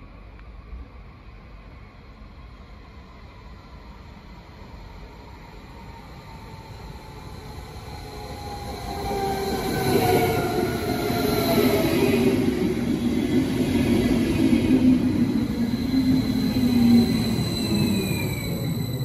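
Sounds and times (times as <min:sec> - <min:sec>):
electric train drive whine: 0:00.2 - 0:19.0.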